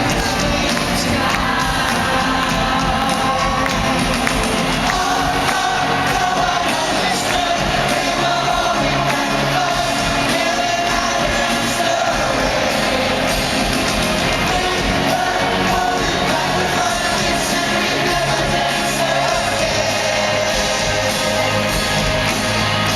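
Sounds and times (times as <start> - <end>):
live pop band with vocals: 0.0 - 22.9.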